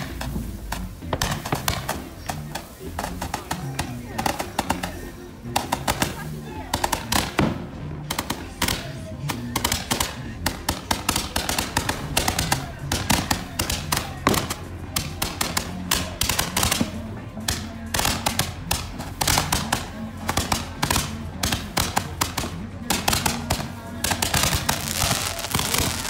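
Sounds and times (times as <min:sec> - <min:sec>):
background music: 0:00.0 - 0:26.0
fireworks popping rapidly: 0:00.0 - 0:26.0.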